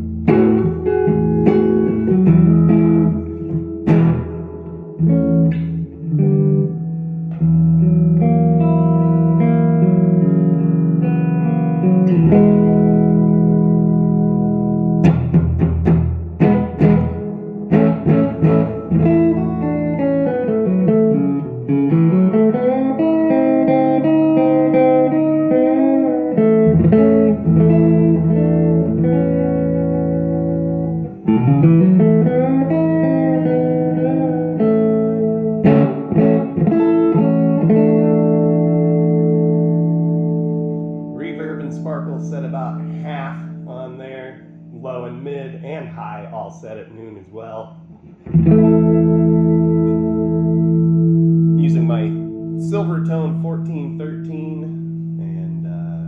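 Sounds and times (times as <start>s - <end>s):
electric guitar chords with reverb: 0.0s - 46.5s, 47.4s - 56.0s.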